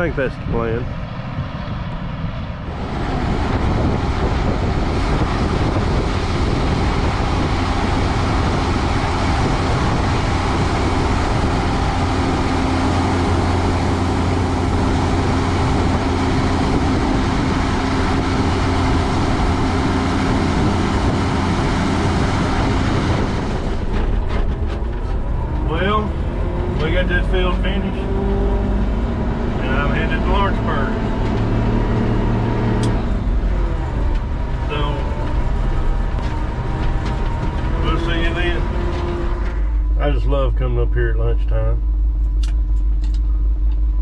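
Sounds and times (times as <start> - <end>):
vehicle engine running: 0.0 - 44.0
rushing noise: 0.4 - 40.4.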